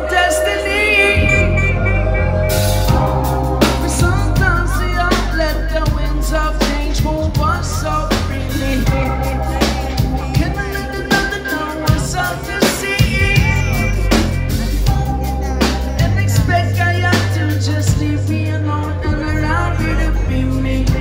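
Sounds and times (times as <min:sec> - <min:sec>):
bass line: 0:00.0 - 0:21.0
drum kit: 0:00.0 - 0:21.0
rock band playing: 0:00.0 - 0:21.0.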